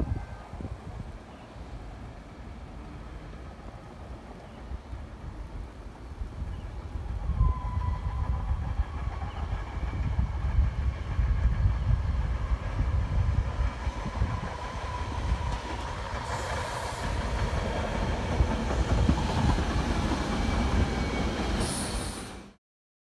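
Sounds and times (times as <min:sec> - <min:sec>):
train wheels rumbling on rail: 0:00.0 - 0:22.6.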